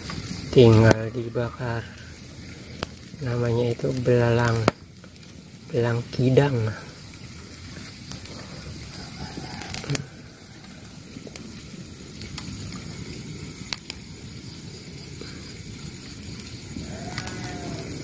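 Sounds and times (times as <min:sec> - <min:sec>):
campfire burning: 0:00.0 - 0:18.0
wood crackling and popping: 0:00.0 - 0:18.0.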